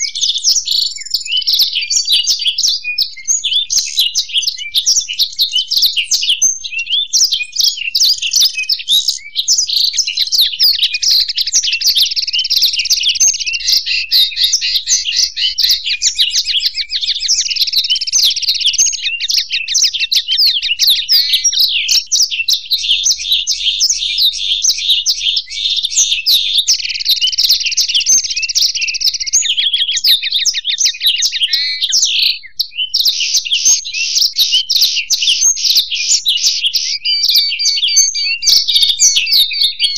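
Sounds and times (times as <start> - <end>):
finches singing: 0.0 - 39.9.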